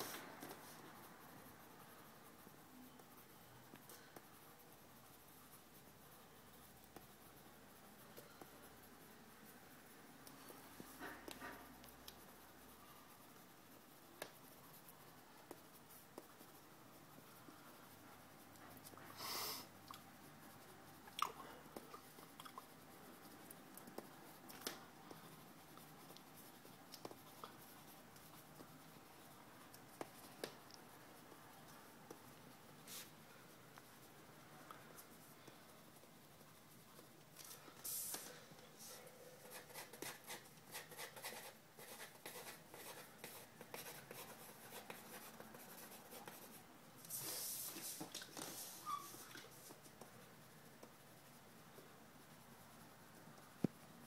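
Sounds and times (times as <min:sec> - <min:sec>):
pencil scratching drawing strokes: 0:00.0 - 0:21.0, 0:21.6 - 0:54.0.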